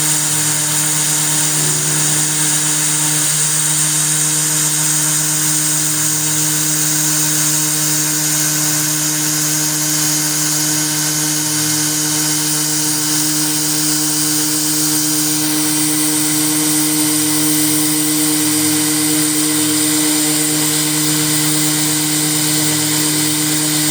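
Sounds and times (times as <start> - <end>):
high hiss of milling cut: 0.0 - 23.9
router spindle running: 0.0 - 23.9.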